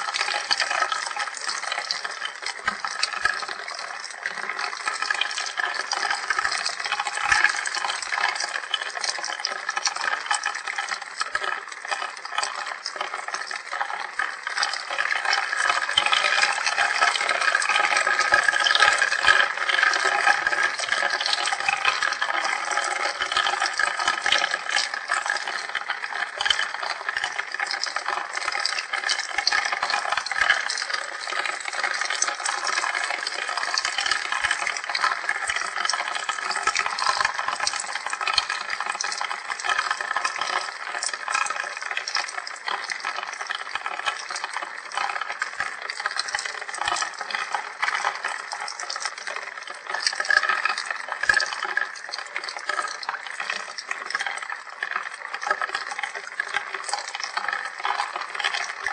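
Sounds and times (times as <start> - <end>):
rain pattering: 0.0 - 58.9.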